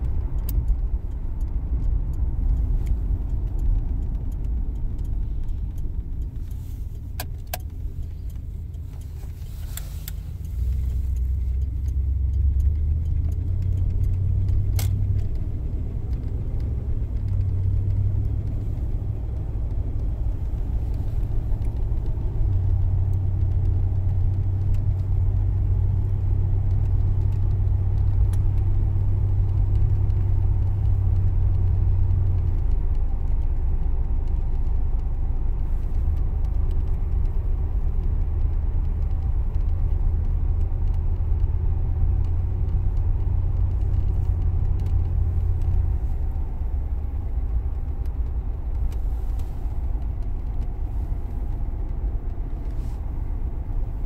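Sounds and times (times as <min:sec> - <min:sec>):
car engine and road noise: 0:00.0 - 0:54.0
light clicks and rattles: 0:00.0 - 0:54.0.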